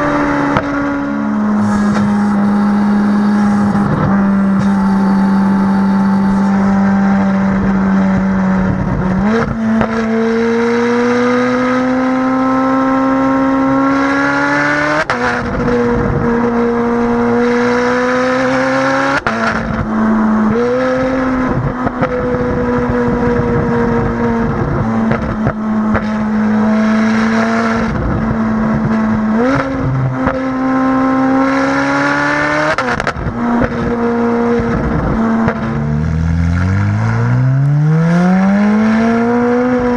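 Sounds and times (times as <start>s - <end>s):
sports car engine shifting gears: 0.0s - 39.9s.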